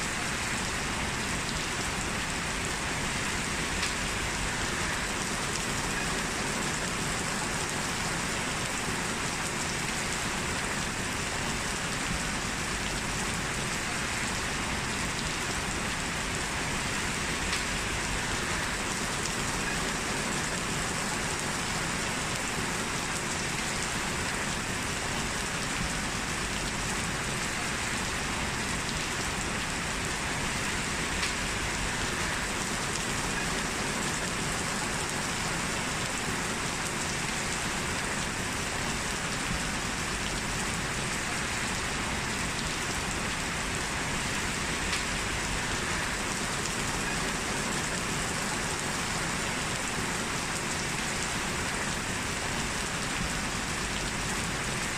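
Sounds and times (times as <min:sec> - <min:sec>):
rain falling on a surface: 0:00.0 - 0:54.9.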